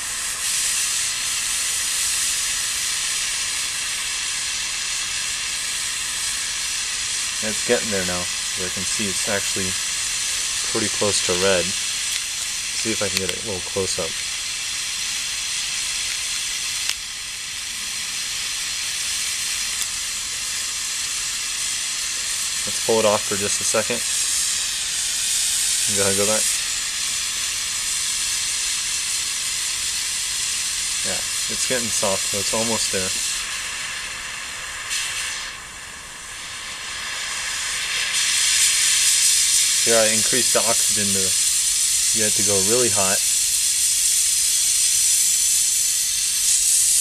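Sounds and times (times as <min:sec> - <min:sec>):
torch flame hissing: 0:00.0 - 0:47.0.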